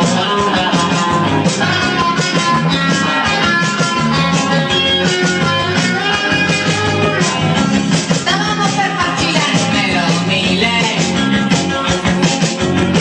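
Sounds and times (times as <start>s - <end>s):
loud dance music: 0.0s - 13.0s.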